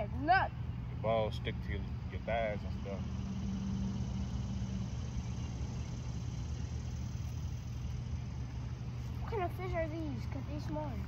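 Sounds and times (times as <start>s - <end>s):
motor humming: 1.8s - 11.0s.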